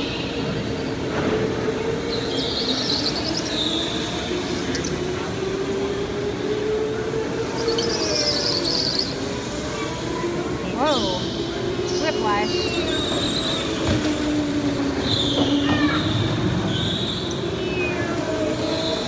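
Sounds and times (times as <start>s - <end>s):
go-kart tyres squealing: 0.0s - 19.0s.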